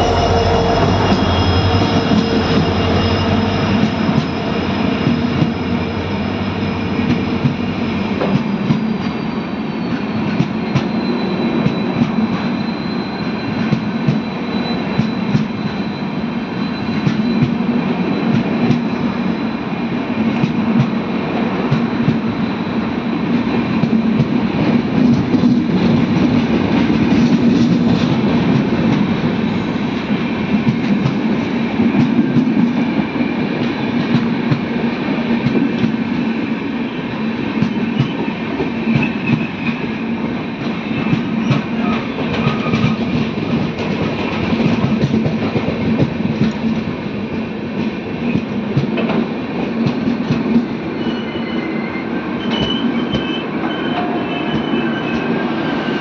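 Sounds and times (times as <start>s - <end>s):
train coaches rumbling past: 0.0s - 56.0s.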